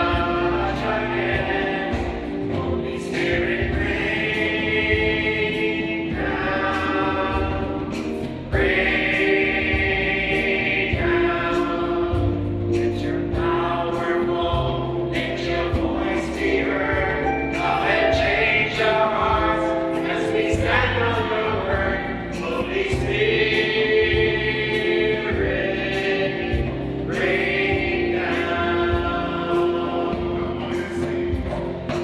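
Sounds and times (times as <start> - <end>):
backing band: 0.0 - 32.0
choir singing worship song: 0.0 - 32.0.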